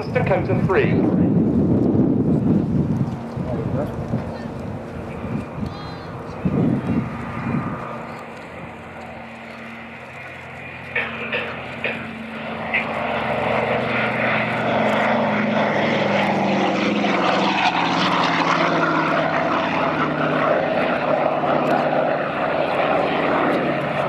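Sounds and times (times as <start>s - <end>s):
propeller aircraft engines: 0.0s - 24.0s.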